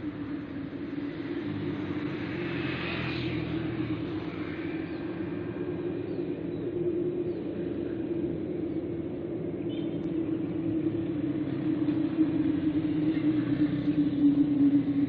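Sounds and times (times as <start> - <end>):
vehicle droning hum: 0.0 - 15.0.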